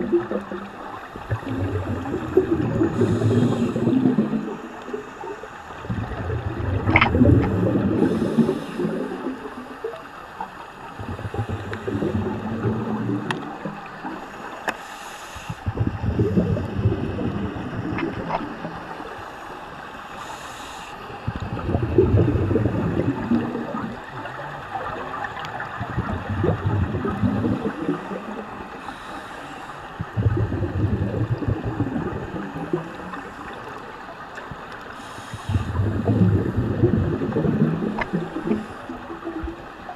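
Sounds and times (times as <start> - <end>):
underwater regulator bubbles: 0.0 - 14.8, 15.4 - 19.5, 20.1 - 39.9.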